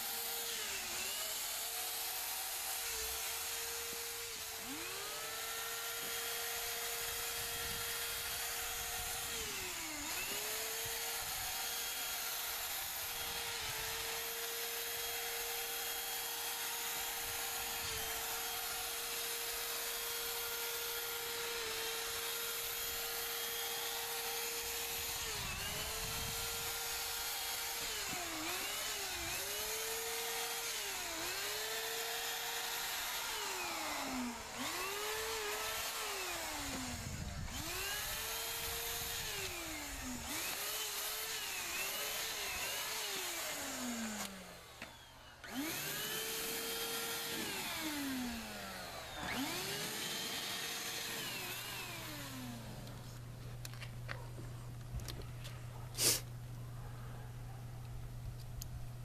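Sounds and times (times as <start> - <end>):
paint sprayer motor whining: 0.0 - 59.0.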